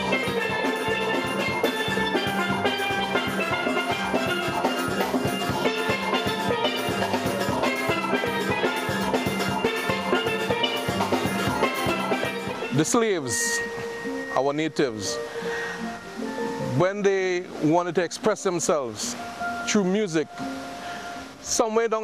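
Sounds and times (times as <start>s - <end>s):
steel band playing: 0.0s - 22.0s.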